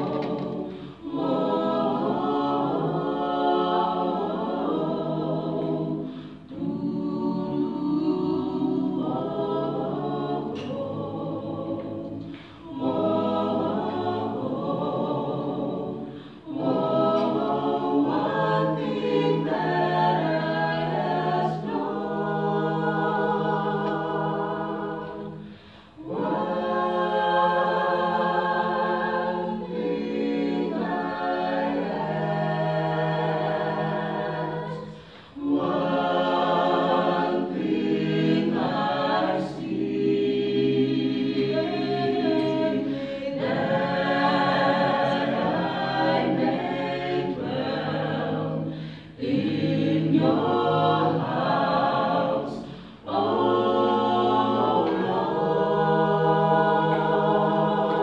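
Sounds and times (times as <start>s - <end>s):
group singing a cappella: 0.0s - 58.0s.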